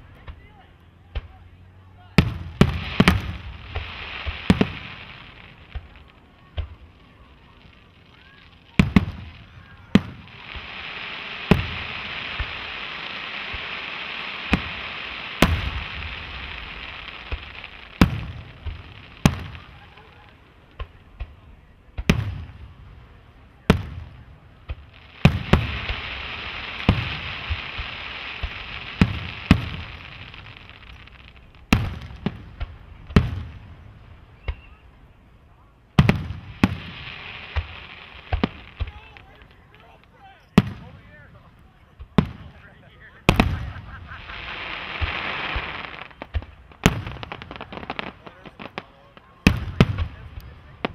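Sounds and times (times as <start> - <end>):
fireworks bangs: 2.1 - 50.9
steady hiss: 2.2 - 50.9.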